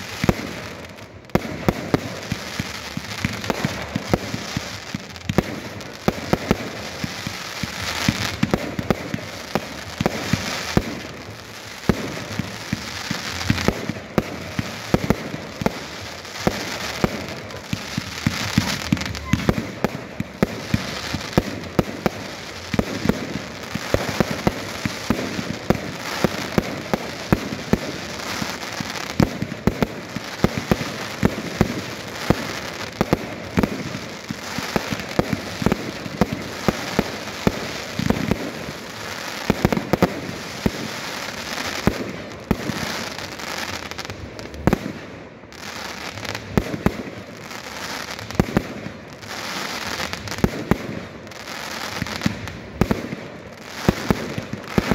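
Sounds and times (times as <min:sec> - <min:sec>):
fireworks bursting with sharp bangs: 0:00.0 - 0:54.9
fireworks crackling: 0:00.0 - 0:54.9.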